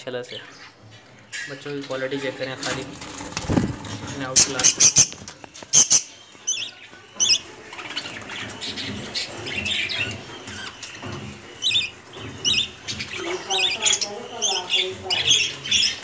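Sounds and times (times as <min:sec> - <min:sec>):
budgerigars chirping and squawking: 0:00.0 - 0:16.0.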